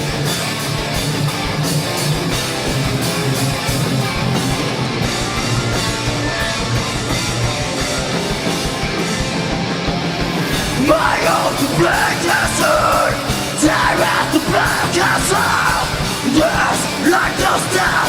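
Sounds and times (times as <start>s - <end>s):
bass guitar: 0.0s - 18.0s
distorted electric guitars: 0.0s - 18.0s
fast driving drum kit: 0.0s - 18.0s.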